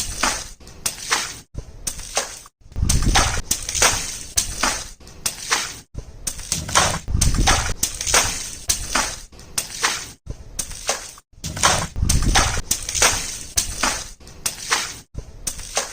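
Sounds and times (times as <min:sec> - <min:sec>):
water balloons bursting: 0:00.0 - 0:15.9.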